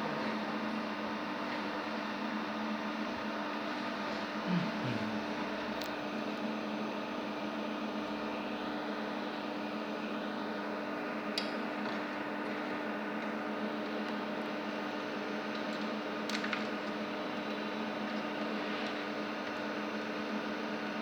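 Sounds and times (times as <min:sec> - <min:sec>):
cooling fans whirring: 0:00.0 - 0:21.0.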